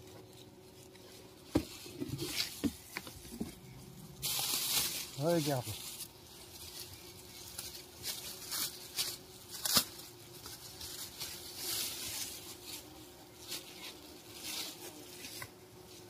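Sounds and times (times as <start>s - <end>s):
bumblebees humming: 0.0s - 16.0s
plastic bag rustling: 0.3s - 15.3s.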